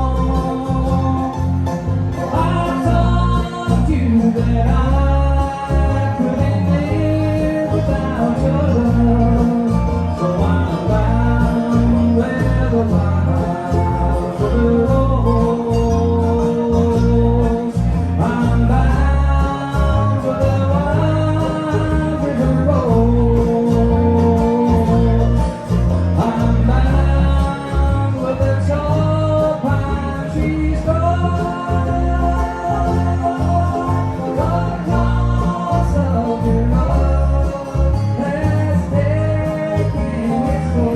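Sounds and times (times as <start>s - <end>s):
acoustic guitar: 0.0s - 40.9s
bluegrass band playing: 0.0s - 40.9s
gliding melody line: 0.0s - 40.9s.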